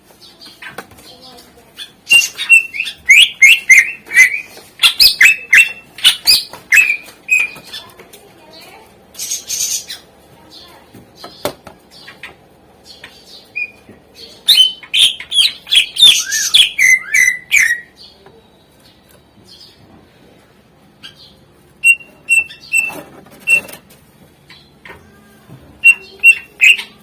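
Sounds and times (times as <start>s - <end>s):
bird singing: 0.2s - 8.0s, 9.2s - 19.8s, 21.0s - 23.7s, 25.8s - 27.0s.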